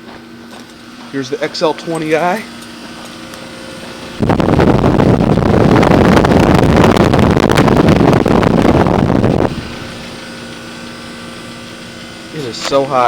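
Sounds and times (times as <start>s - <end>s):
wind rumble from fan air: 0.0s - 13.0s.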